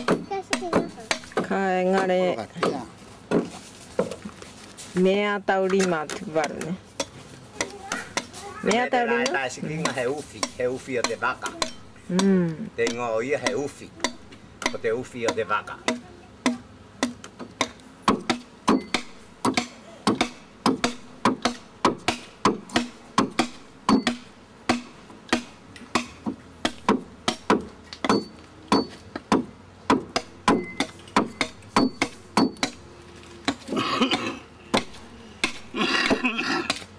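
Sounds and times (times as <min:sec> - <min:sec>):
adze chopping wood: 0:00.0 - 0:04.2, 0:05.7 - 0:32.9, 0:34.7 - 0:36.9.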